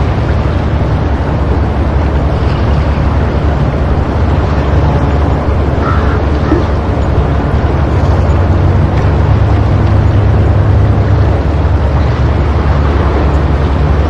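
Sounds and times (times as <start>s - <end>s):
sea surf washing against rocks: 0.0s - 14.0s.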